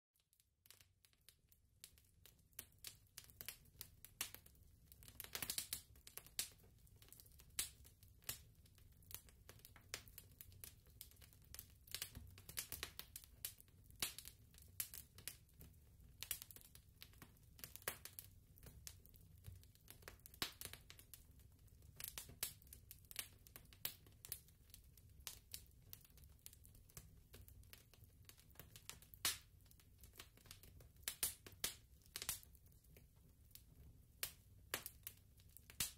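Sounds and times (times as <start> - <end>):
faint crackling and popping: 0.2 - 35.9.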